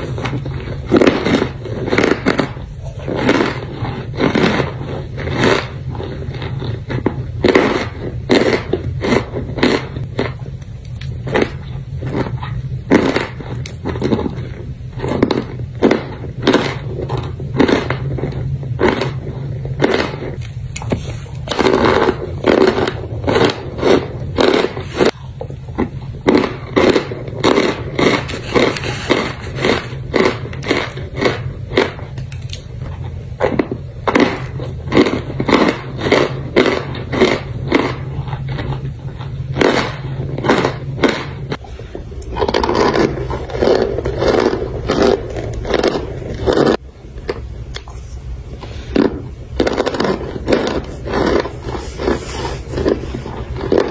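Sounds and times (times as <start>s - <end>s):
crunchy food chewing: 0.0s - 53.9s
steady low hum: 0.0s - 53.9s.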